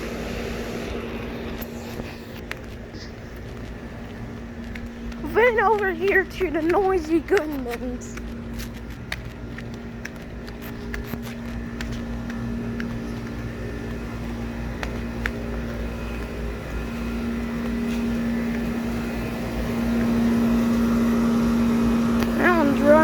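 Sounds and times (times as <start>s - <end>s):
air conditioner hum and fan: 0.0s - 23.0s
footsteps clicking: 1.6s - 21.0s.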